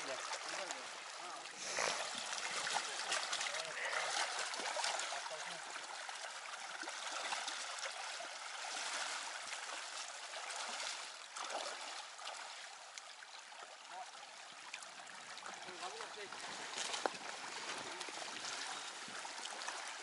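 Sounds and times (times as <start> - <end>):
river flowing over stones: 0.0 - 20.0.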